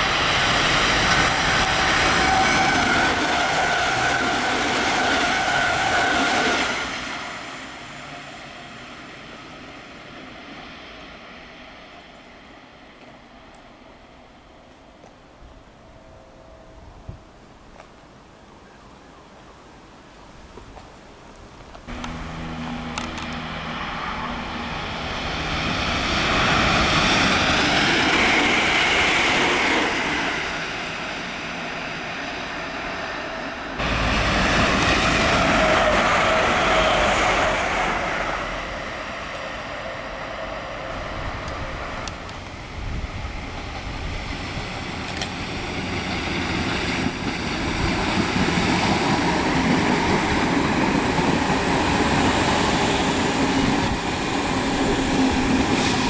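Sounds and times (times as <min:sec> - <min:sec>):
electric train running past: 0:00.0 - 0:18.1, 0:21.9 - 0:56.0
trains passing: 0:00.0 - 0:18.5, 0:21.7 - 0:56.0.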